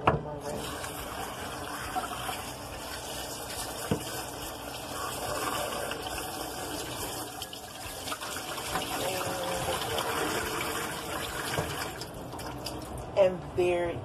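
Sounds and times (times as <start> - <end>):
water pouring into metal sink: 0.6 - 13.0.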